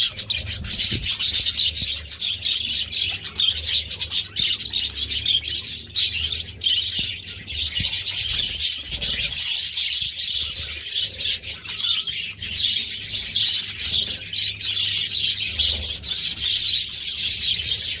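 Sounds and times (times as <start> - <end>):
budgerigars chattering: 0.0 - 18.0.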